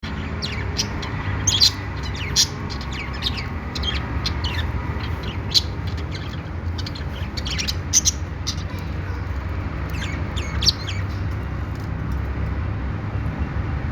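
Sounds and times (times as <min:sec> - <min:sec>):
budgerigars chirping: 0:00.0 - 0:11.6
steady low hum: 0:00.0 - 0:12.8.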